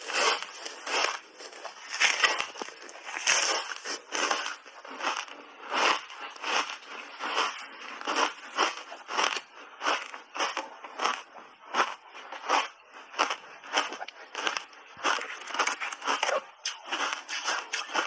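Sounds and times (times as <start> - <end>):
ice bar crunching while chewed: 0.0 - 18.0.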